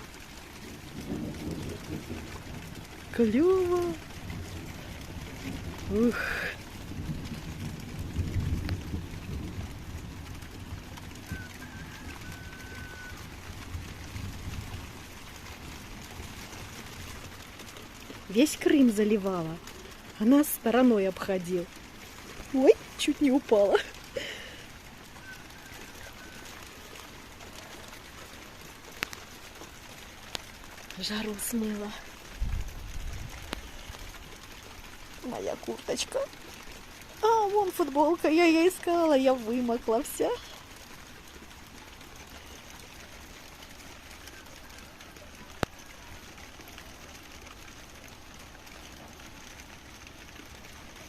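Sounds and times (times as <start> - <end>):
steady rain hiss: 0.0 - 51.0.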